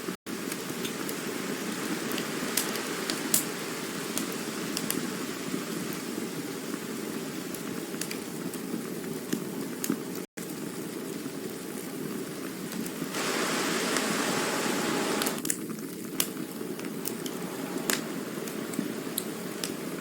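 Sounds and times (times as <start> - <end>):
campfire hissing and crackling: 0.0 - 20.0.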